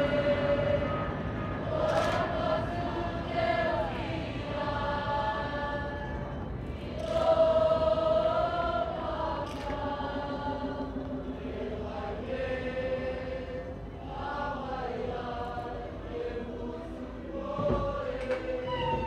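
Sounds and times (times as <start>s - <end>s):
group singing chant-like song: 0.0s - 19.0s.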